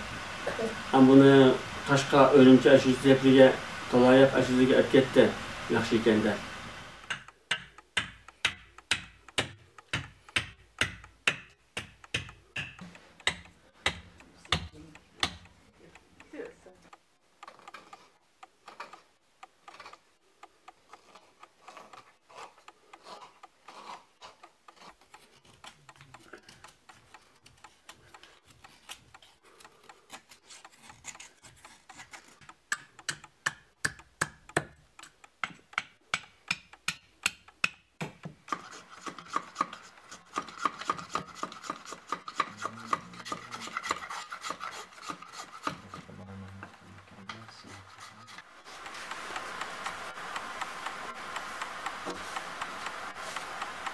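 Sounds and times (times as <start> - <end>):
knife carving wood: 6.9 - 53.9.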